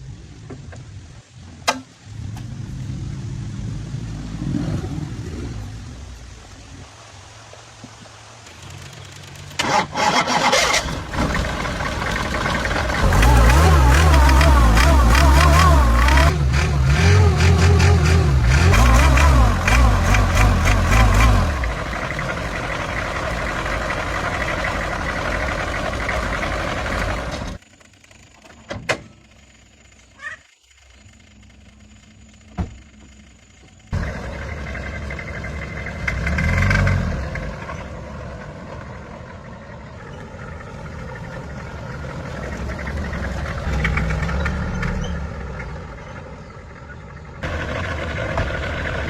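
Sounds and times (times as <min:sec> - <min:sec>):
car engine running: 0:08.4 - 0:28.3, 0:29.2 - 0:49.0.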